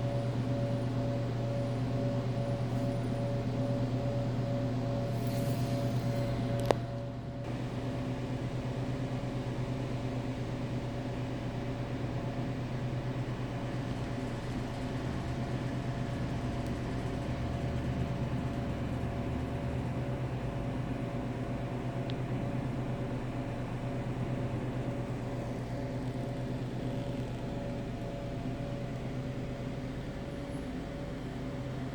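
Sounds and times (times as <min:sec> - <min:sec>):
mechanical hum: 0:00.0 - 0:31.9.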